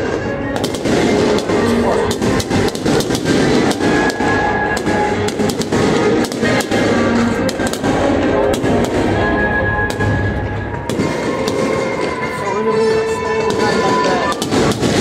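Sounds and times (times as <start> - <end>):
fireworks banging and crackling: 0.0 - 15.0
music playing: 0.0 - 15.0.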